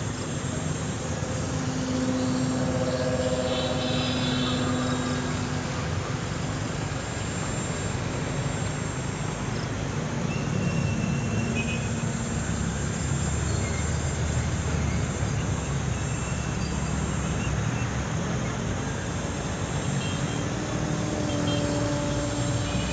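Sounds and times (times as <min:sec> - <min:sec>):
distant model plane motor whining: 0:00.0 - 0:22.9.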